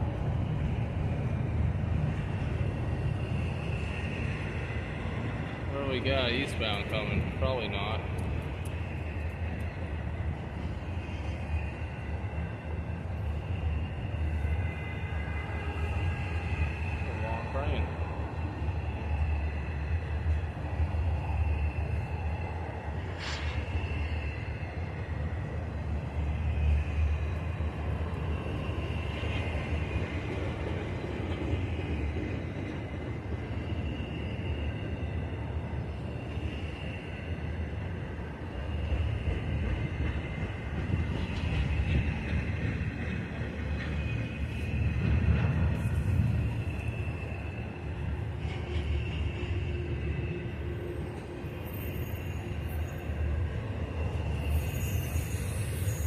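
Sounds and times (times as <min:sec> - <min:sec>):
freight train cars rolling: 0:00.0 - 0:56.0.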